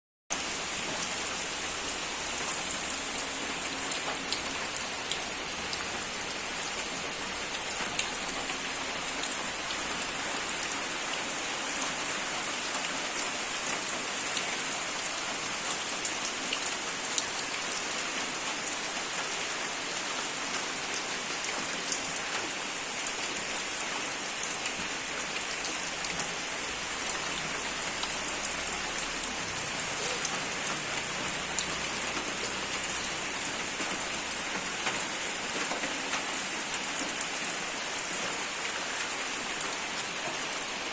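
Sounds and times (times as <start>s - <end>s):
rain falling: 0.3s - 40.9s.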